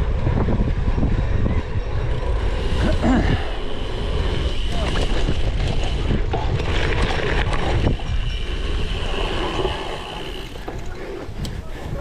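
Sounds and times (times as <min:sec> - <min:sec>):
wind buffeting microphone: 0:00.0 - 0:12.0
bike rattling and knocking: 0:00.1 - 0:12.0.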